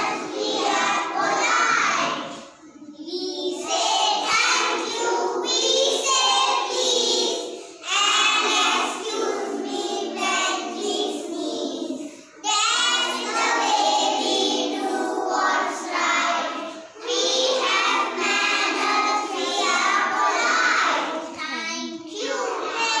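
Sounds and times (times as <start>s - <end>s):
young children singing: 0.0s - 23.0s.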